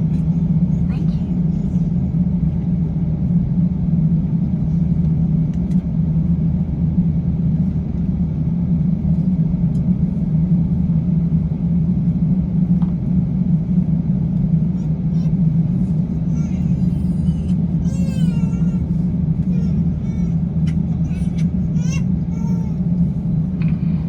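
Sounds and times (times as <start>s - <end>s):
air-conditioning running: 0.0s - 24.0s
aircraft engines idling: 0.0s - 24.0s.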